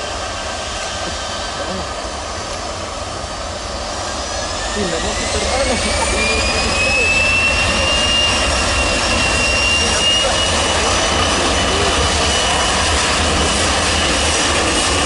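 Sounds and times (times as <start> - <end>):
high-pitched engine whine: 0.0 - 15.0
jet airliner engines roaring: 0.0 - 15.0.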